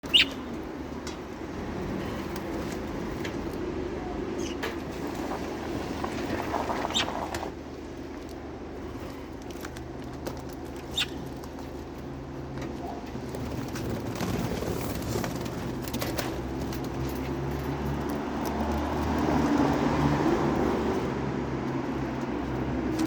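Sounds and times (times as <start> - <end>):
birds pecking at feed: 0.0 - 3.6, 4.4 - 20.7.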